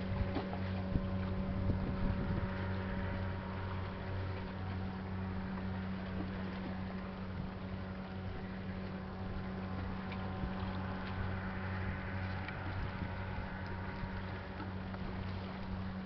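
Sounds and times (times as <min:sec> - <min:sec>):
boat engine droning: 0:00.0 - 0:16.0
wind and water noise: 0:00.0 - 0:16.0.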